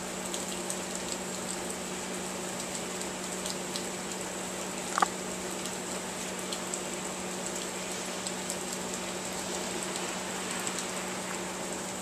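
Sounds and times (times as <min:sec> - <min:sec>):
steady rain: 0:00.0 - 0:12.0
rain drop clicks: 0:00.2 - 0:01.7, 0:02.5 - 0:10.9.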